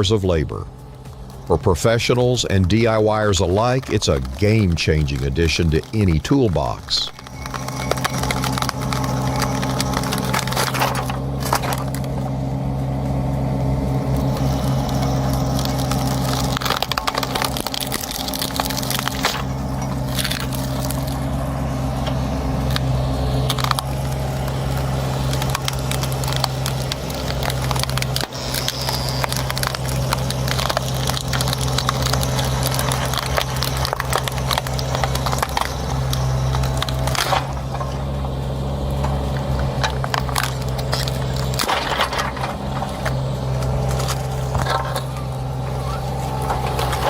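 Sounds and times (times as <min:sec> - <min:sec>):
heavy machine engine running: 0:00.0 - 0:47.0
wood cracking and splintering: 0:00.0 - 0:47.0.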